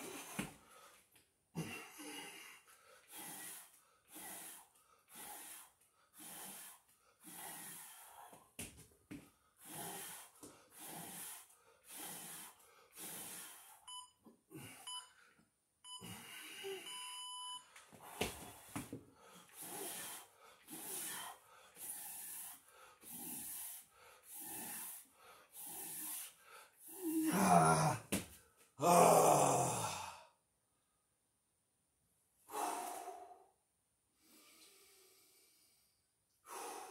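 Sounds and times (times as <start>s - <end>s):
man breathing hard: 0.0s - 8.6s, 9.3s - 13.9s, 16.0s - 17.1s, 17.7s - 27.4s, 28.8s - 30.4s, 32.4s - 33.6s, 34.2s - 36.9s.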